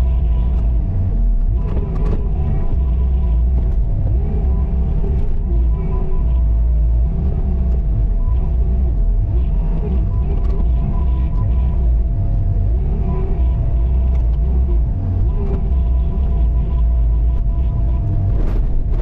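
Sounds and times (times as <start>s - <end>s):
diesel engine running with whine: 0.0s - 19.0s.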